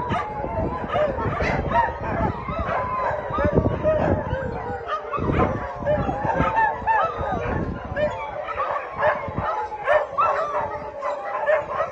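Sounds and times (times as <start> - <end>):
crowd of dogs barking: 0.0 - 11.9.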